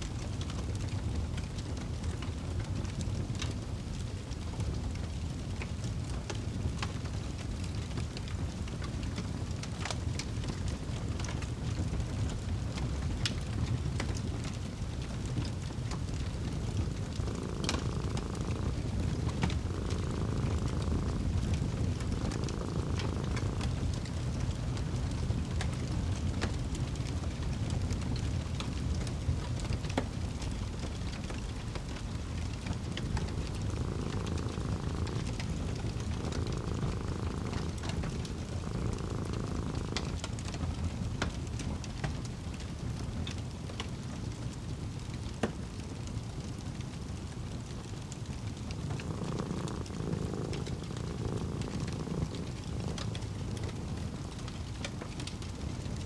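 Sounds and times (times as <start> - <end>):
cat purring: 0.0 - 56.0
wood fire crackling: 0.1 - 56.0.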